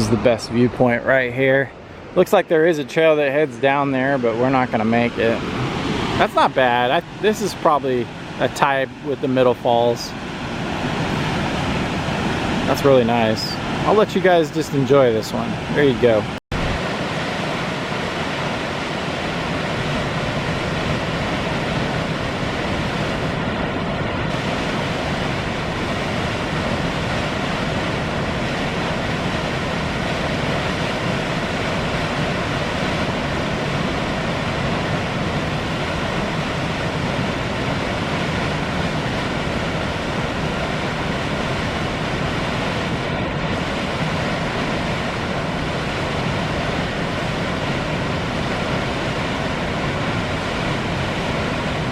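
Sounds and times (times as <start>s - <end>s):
waterfall rushing: 3.1s - 23.6s, 24.3s - 51.9s.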